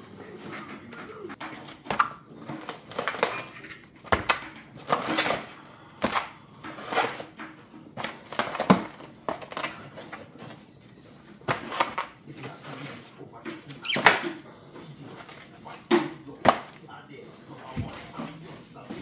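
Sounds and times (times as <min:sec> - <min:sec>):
plastic trays crinkling: 0:00.0 - 0:19.0.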